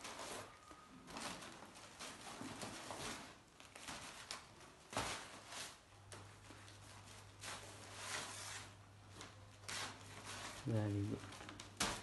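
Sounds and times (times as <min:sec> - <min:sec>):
paper rustling and crackling: 0:00.0 - 0:12.0.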